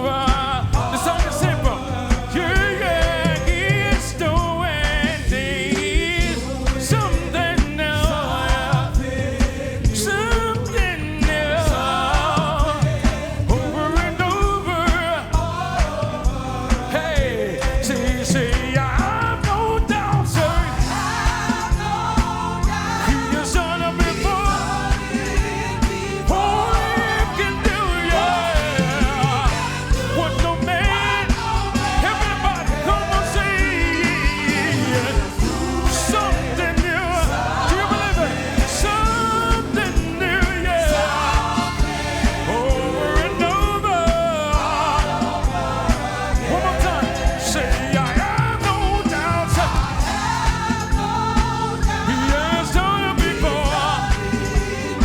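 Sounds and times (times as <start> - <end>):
gospel singers with band: 0.0 - 55.0.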